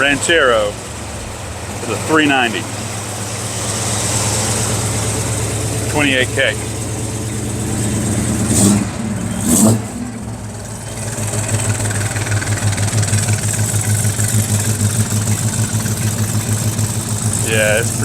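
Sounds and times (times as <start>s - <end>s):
car engine pulsing idle: 0.0s - 18.0s
car engine throttle blips: 0.0s - 18.0s.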